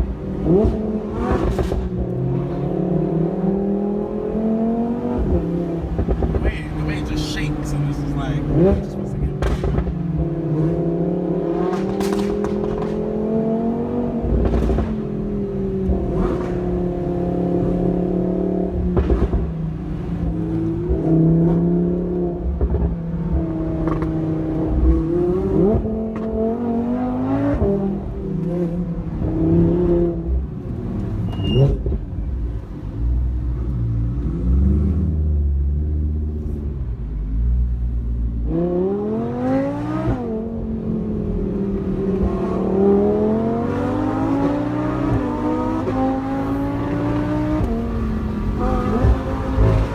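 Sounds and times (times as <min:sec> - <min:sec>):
supercar engine revving: 0:00.0 - 0:49.9.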